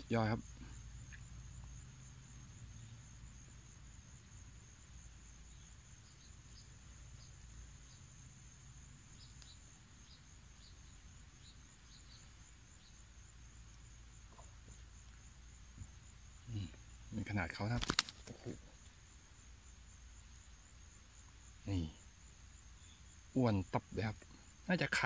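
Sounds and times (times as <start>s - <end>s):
high-pitched insect trill: 0.0s - 25.0s.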